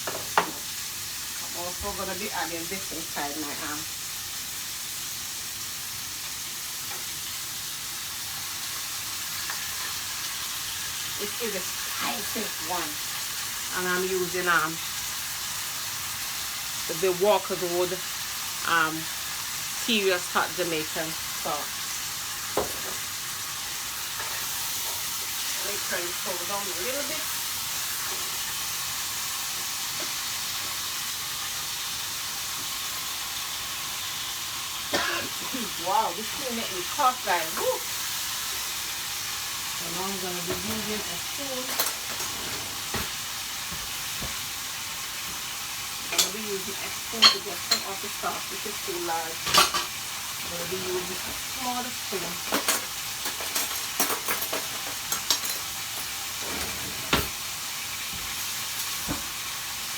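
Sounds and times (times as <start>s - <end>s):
stir-fry sizzling in oil: 0.0s - 59.9s.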